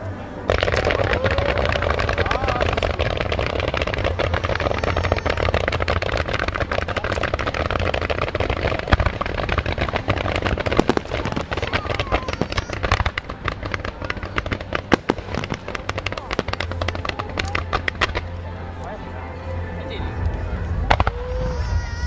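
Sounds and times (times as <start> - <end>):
fireworks crackling and banging: 0.0 - 19.6, 20.2 - 22.0.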